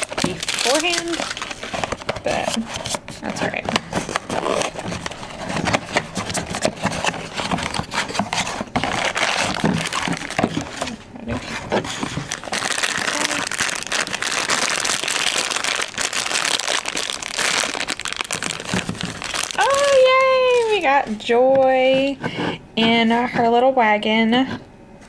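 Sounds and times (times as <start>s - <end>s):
foil bag crinkling and tearing: 0.0s - 21.0s.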